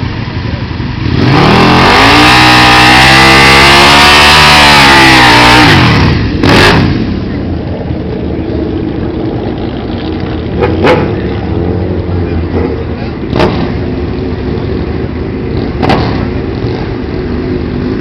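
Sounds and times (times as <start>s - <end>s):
motorcycle engine at full throttle: 0.0s - 18.0s.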